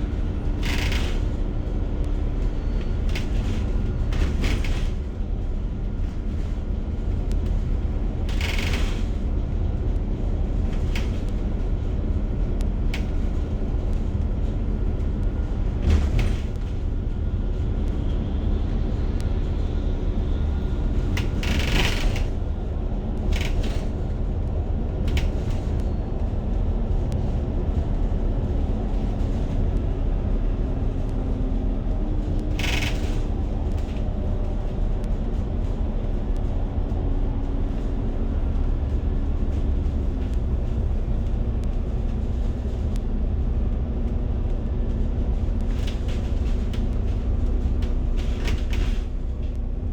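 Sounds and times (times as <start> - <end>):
bus engine and road rumble: 0.0 - 49.9.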